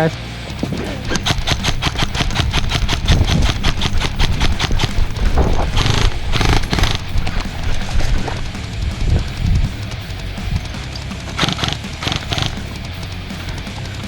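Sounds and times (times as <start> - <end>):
full-auto bursts: 0.5 - 14.0
airsoft guns firing rapid shots: 0.6 - 9.7, 10.3 - 13.9.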